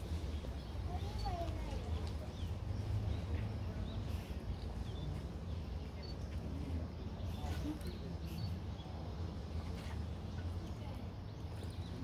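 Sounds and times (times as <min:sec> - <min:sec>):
murmur of distant voices: 0:00.0 - 0:12.0.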